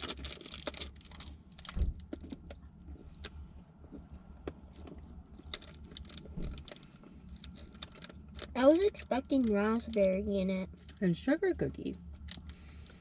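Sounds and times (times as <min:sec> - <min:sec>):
candy wrappers crinkling: 0:00.0 - 0:11.2
low steady hum: 0:00.0 - 0:13.0.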